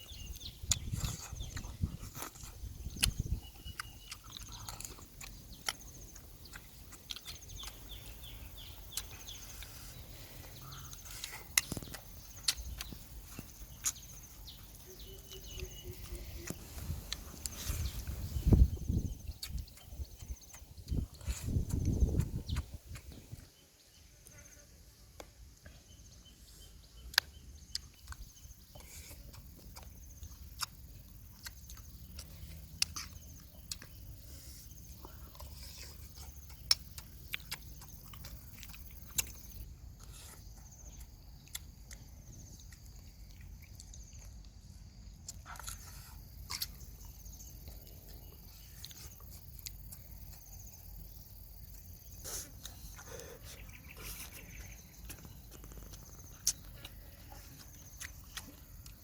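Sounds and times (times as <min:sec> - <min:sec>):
chewing and crunching: 0:00.0 - 0:23.9, 0:25.2 - 0:59.0.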